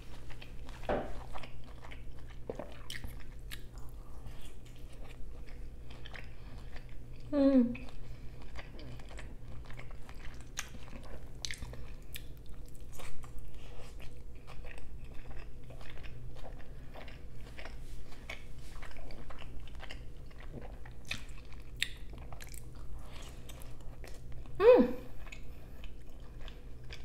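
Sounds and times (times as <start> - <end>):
biting and chewing crunches: 0.1 - 7.3, 7.9 - 24.5, 25.2 - 27.0.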